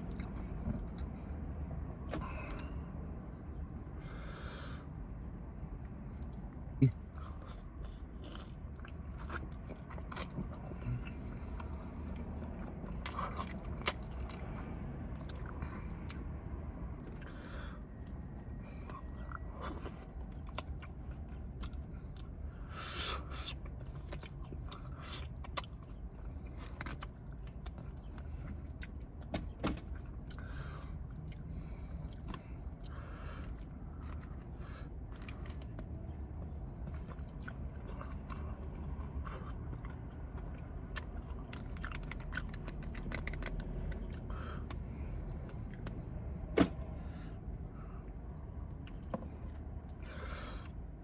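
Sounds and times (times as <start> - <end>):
person chewing crunchy food: 0.0 - 46.5, 48.0 - 51.0
steady low hum: 0.0 - 51.0.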